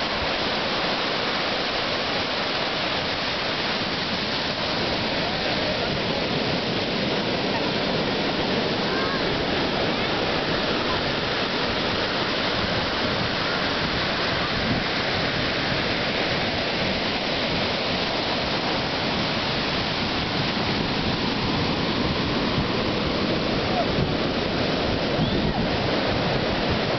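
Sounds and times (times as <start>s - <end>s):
ocean surf breaking: 0.0s - 26.9s.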